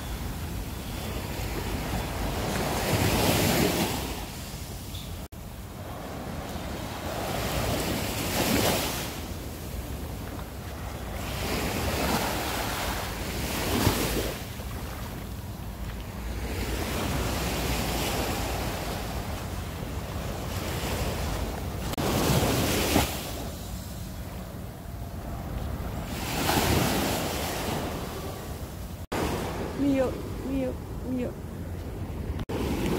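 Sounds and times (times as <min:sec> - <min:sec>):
waves breaking on beach: 0:01.0 - 0:04.8, 0:05.7 - 0:15.3, 0:16.1 - 0:23.7, 0:25.3 - 0:30.7, 0:32.4 - 0:32.9.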